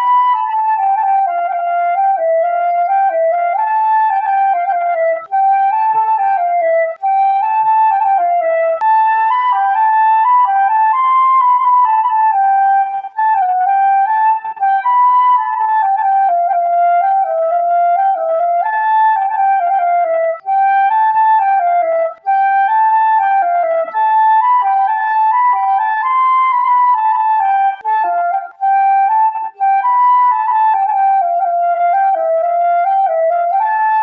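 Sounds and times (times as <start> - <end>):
solo flute-like woodwind melody: 0.0 - 34.0.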